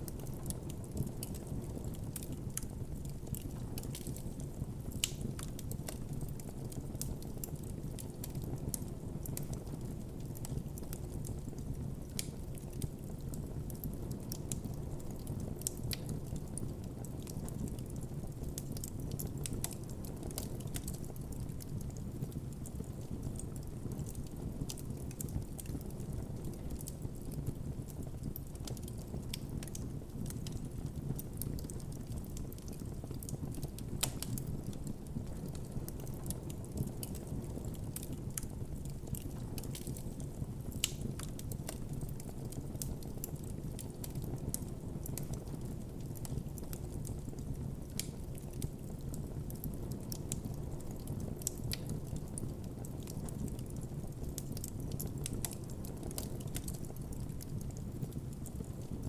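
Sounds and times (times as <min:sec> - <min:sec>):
burning wood crackling: 0:00.0 - 0:59.0
flames rumbling: 0:00.1 - 0:59.0.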